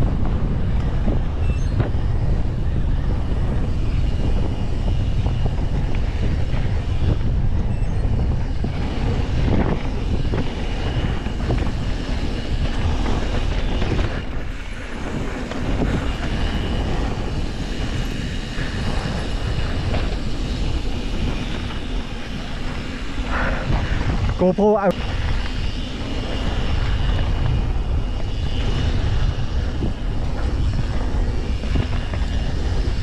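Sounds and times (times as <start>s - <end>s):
bike rattling over bumps: 0.0s - 33.0s
bike tyres on gravel trail: 0.0s - 33.0s
wind over microphone: 0.0s - 33.0s.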